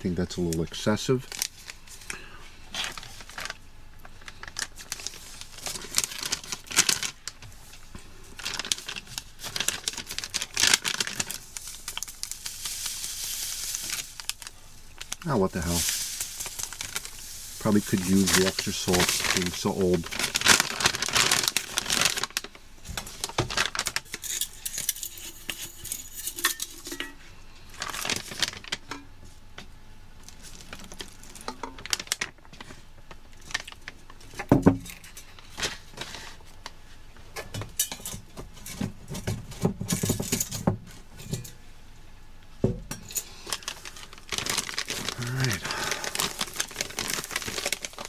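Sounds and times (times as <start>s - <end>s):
plastic crinkling: 0.2s - 29.3s, 30.2s - 36.8s, 43.0s - 48.0s.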